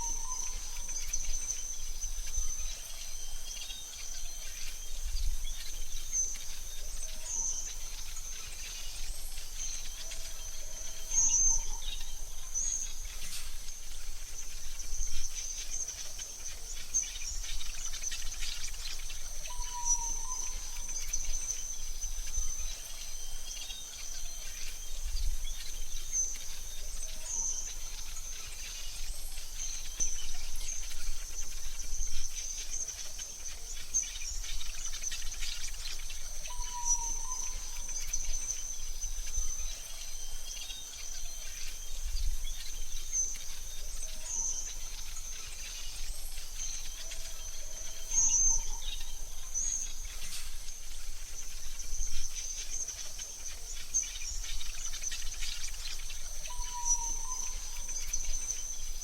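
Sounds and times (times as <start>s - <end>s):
bird chirps: 0.0s - 59.0s
insect trill: 0.0s - 59.0s.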